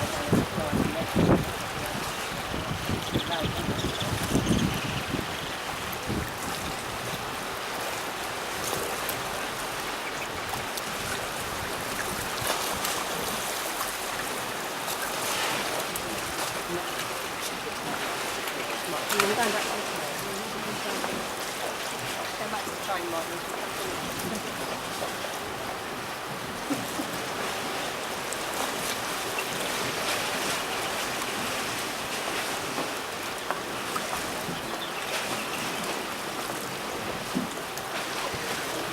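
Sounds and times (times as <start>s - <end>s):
small waves lapping and splashing: 0.0s - 38.9s.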